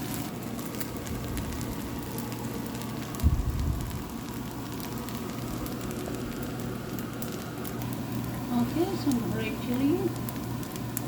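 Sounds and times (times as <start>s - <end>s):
rice sizzling in a hot pan: 0.0s - 11.0s
steady low hum: 0.0s - 11.0s.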